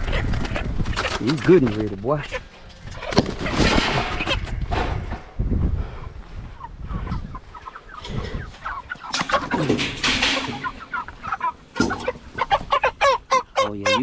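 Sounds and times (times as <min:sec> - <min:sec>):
chickens clucking and squawking: 0:00.0 - 0:14.0.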